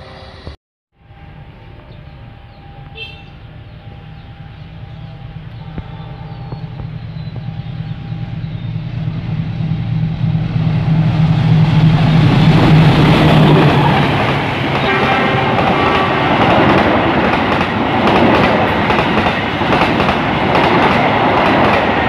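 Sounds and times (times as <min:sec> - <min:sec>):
train approaching rumble: 0:00.0 - 0:22.0.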